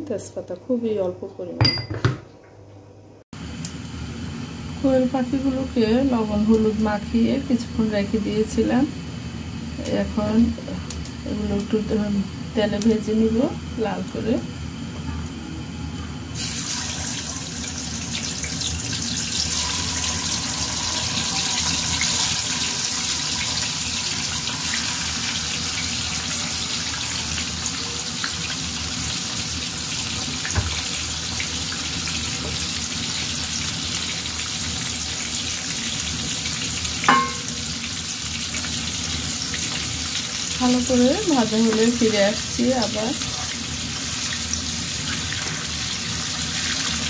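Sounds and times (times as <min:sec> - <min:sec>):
sizzling in hot oil: 0:03.4 - 0:14.8, 0:16.3 - 0:47.0.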